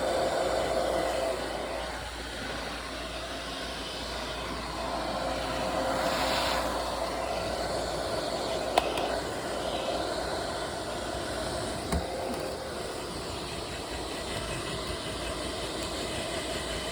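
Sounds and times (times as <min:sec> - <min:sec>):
hair dryer running: 0:00.0 - 0:16.9.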